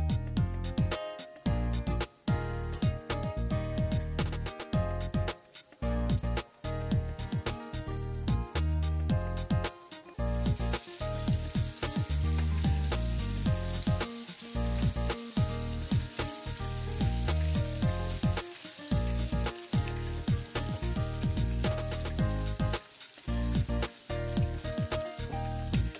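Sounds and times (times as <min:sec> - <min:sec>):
background music with deep bass: 0:00.0 - 0:25.9
chicken deep-frying in hot oil: 0:00.0 - 0:25.9.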